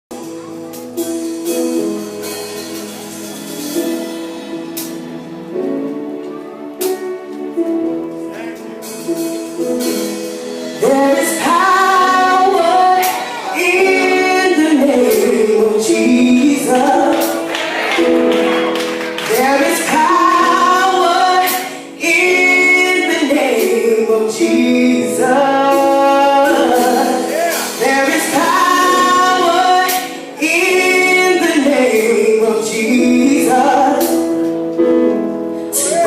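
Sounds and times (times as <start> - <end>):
sustained keyboard chords: 0.1 - 36.0.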